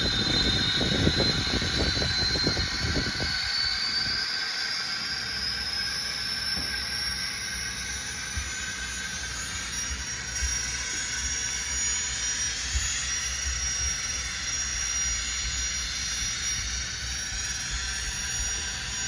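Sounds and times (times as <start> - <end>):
high turbine whine: 0.0 - 19.0.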